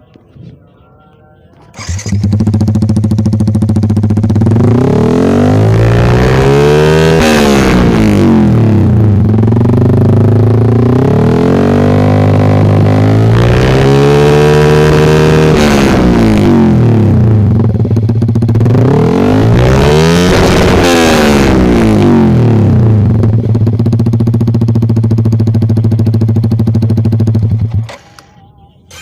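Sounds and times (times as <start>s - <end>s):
motorcycle engine revving: 1.5s - 29.0s.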